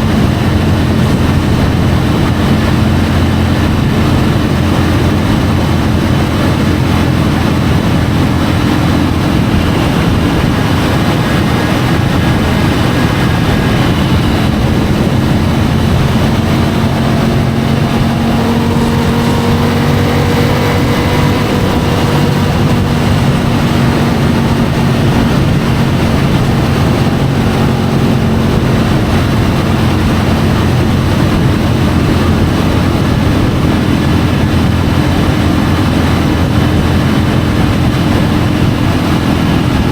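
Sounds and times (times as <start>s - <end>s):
motorcycle engine drone cruising: 0.0s - 39.9s
wind and road noise: 0.0s - 39.9s.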